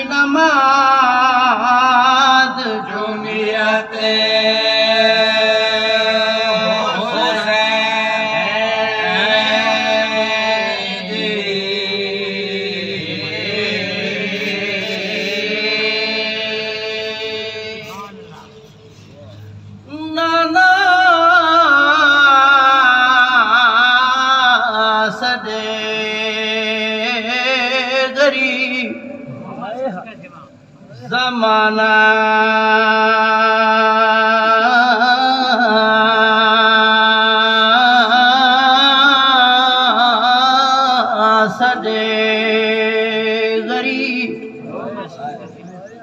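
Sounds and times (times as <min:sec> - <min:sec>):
man chanting into a microphone: 0:00.0 - 0:45.7.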